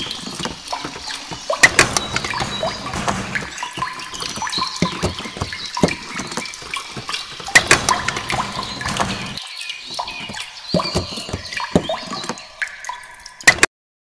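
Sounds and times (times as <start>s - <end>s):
water pouring into clay pot: 0.0s - 13.6s.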